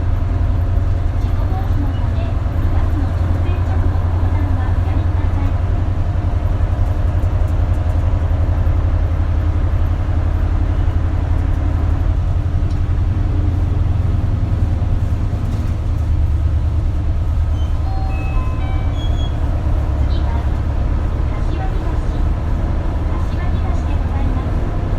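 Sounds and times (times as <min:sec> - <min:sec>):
bus diesel engine drone: 0:00.0 - 0:24.9.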